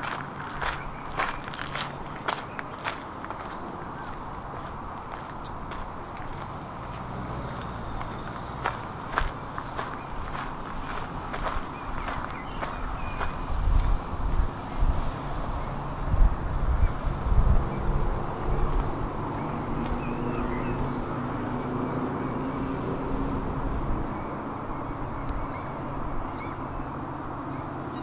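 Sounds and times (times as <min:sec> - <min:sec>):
low outdoor rumble: 0:00.0 - 0:27.6
small birds chirping: 0:00.4 - 0:28.0.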